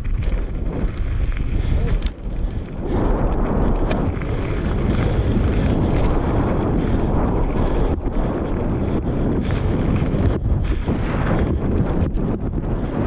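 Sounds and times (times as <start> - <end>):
bike tyres rumbling over rough ground: 0.0 - 13.0
wind buffeting microphone: 0.0 - 13.0.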